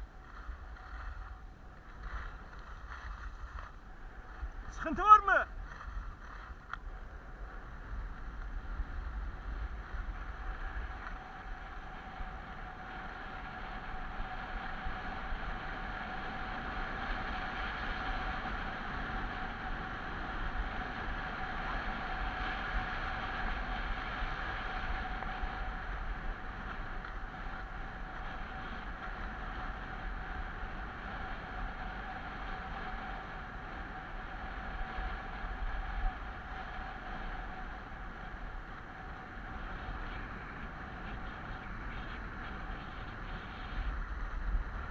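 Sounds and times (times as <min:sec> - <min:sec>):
skis sliding on snow: 0:00.0 - 0:44.9
wind buffeting microphone: 0:00.0 - 0:44.9.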